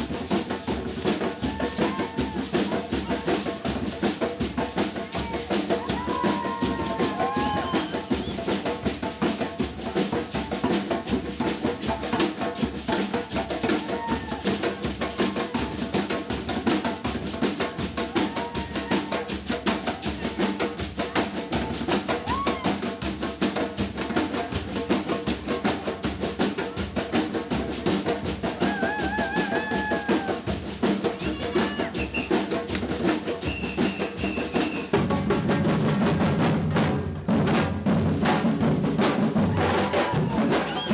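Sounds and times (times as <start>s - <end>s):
samba percussion drumming: 0.0s - 40.9s.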